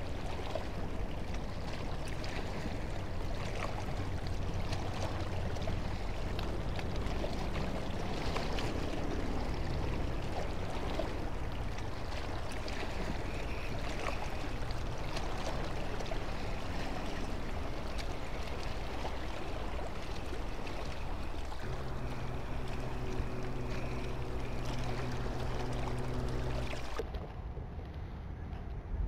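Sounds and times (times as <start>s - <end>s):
water rushing: 0.0s - 27.0s
low engine hum: 0.0s - 29.0s
wind: 0.0s - 29.0s.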